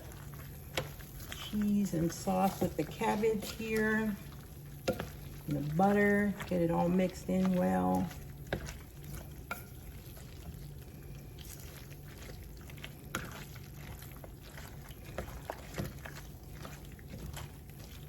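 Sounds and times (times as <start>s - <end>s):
steady low hum: 0.0s - 18.0s
wet squishing of stirred sauce: 0.0s - 18.0s.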